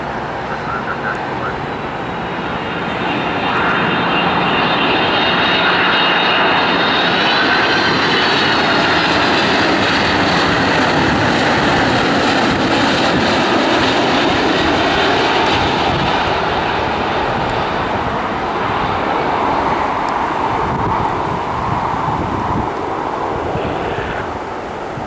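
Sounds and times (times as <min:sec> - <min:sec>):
jet engines rushing with whine: 0:00.0 - 0:25.0.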